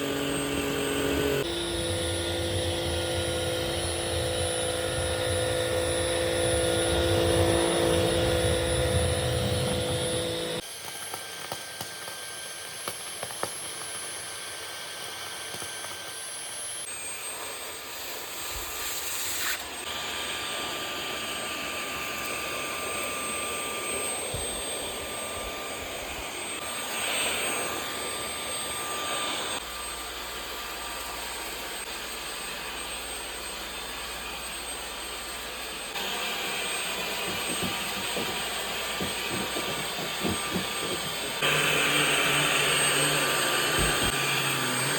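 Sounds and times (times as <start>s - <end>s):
stick vacuum running: 0.0s - 18.5s, 19.6s - 44.9s.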